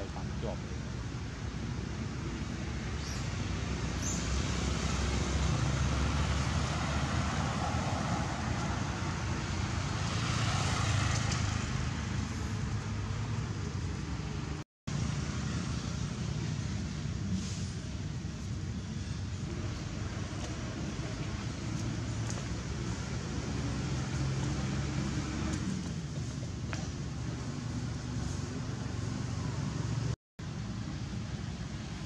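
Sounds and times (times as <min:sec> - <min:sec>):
road traffic noise: 0:00.0 - 0:32.0
vehicles passing: 0:00.0 - 0:32.0.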